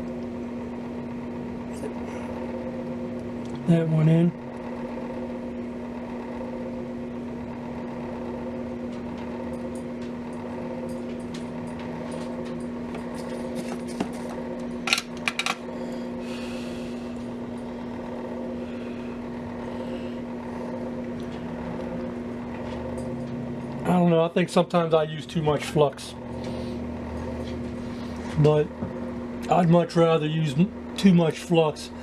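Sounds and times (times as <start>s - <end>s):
small fan humming: 0.0s - 32.0s.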